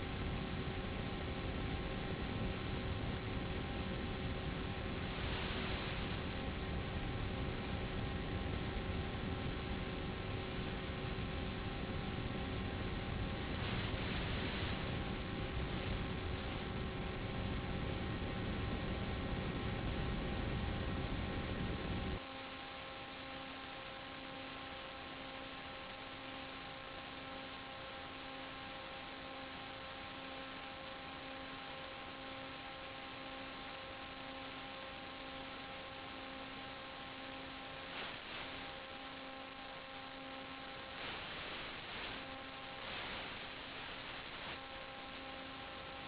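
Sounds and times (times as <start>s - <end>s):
electrical hiss: 0.0s - 18.4s, 21.0s - 46.0s
faint hum of steady tones: 0.0s - 46.0s.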